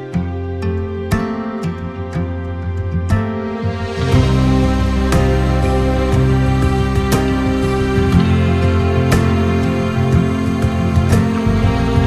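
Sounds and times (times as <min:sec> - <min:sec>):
soft gentle instrumental music: 0:00.0 - 0:12.0.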